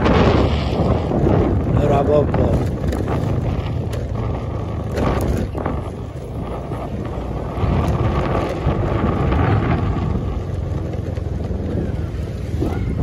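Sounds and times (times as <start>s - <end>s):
moving vehicle rumble: 0.0s - 13.0s
wind buffeting microphone: 0.0s - 13.0s.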